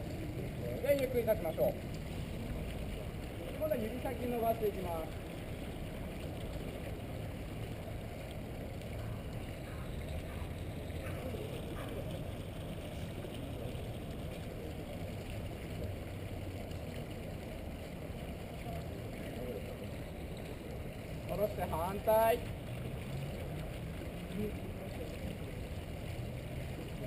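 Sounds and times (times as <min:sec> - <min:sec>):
small fountain splashing: 0:00.0 - 0:27.0.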